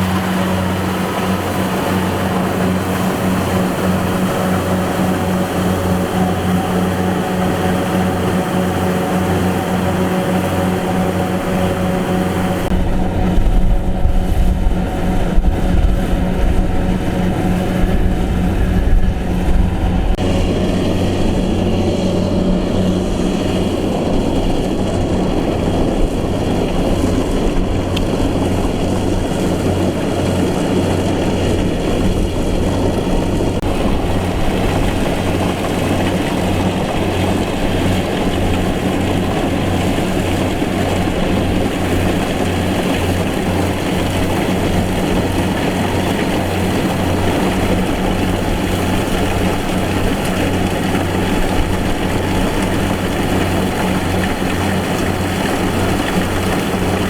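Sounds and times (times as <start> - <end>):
farm machine engine running: 0.0 - 57.0.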